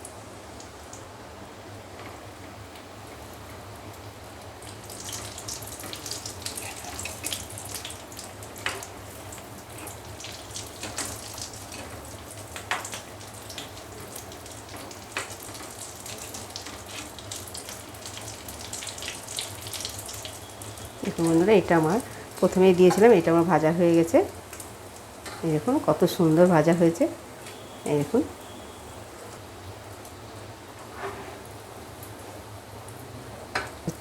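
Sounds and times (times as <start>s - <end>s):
food deep-frying in hot oil: 0.0s - 34.0s.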